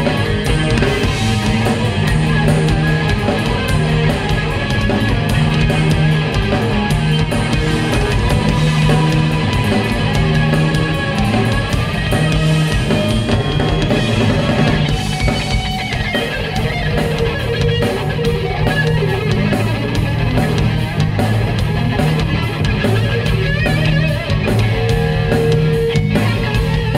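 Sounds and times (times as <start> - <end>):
driving drum beat: 0.0 - 26.9
live rock band: 0.0 - 26.9.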